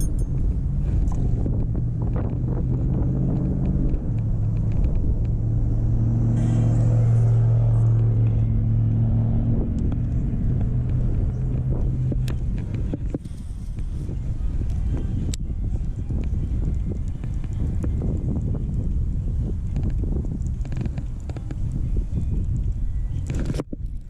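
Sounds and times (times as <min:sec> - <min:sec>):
vehicle engine humming: 0:00.0 - 0:24.0
wind rumble on microphone: 0:00.0 - 0:24.0.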